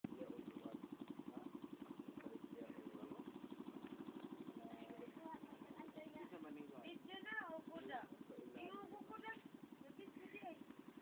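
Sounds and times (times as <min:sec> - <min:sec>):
boat engine puttering: 0:00.1 - 0:11.0.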